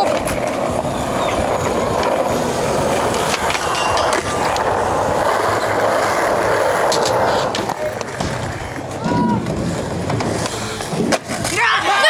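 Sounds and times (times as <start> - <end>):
skateboard clacks: 0.0 - 12.0
skateboard wheels rolling on concrete: 0.0 - 12.0.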